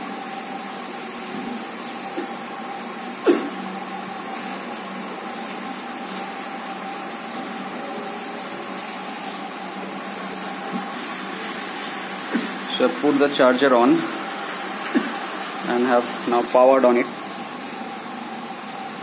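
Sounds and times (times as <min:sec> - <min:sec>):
mechanical hum with thin tone: 0:00.0 - 0:19.0.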